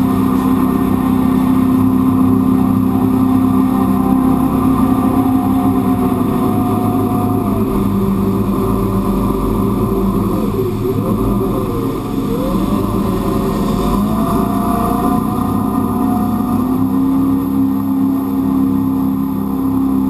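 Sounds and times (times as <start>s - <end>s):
boat engine running hard: 0.0s - 20.0s
water noise: 0.0s - 20.0s.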